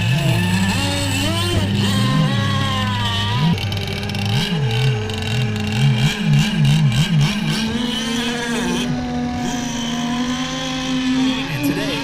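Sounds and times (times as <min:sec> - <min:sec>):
two-stroke engine revving up and down: 0:00.0 - 0:12.0
two-stroke engine steady drone: 0:00.0 - 0:12.0.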